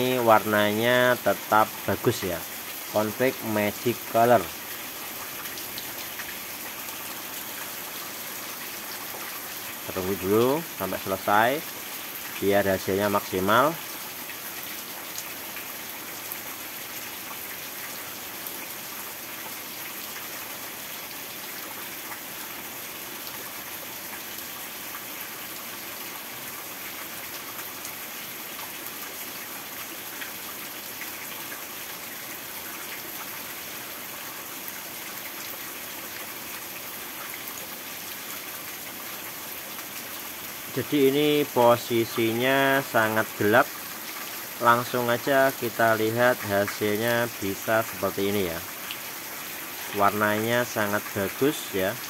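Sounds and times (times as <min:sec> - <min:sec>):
heavy rain pouring: 0:00.0 - 0:52.0.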